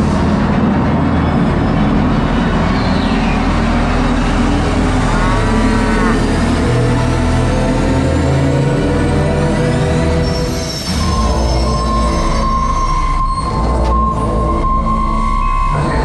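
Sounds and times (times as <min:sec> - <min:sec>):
loud background music: 0:00.0 - 0:16.0.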